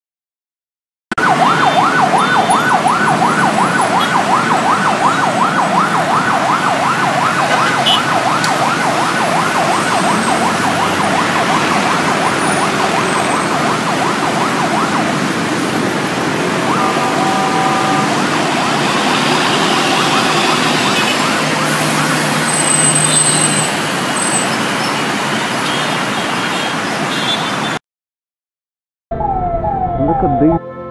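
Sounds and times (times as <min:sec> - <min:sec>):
ambulance siren yelping: 0:01.2 - 0:24.4, 0:29.1 - 0:30.9
traffic noise: 0:01.2 - 0:27.8.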